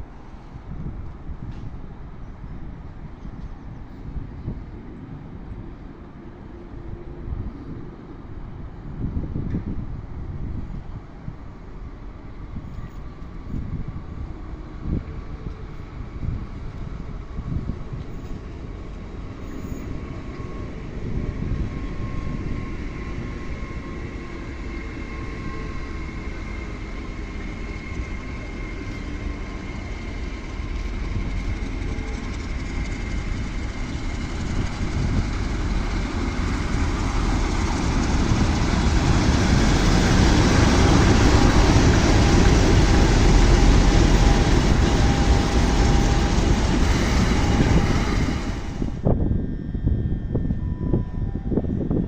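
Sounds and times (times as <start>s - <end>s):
train rumble: 0.0s - 52.0s.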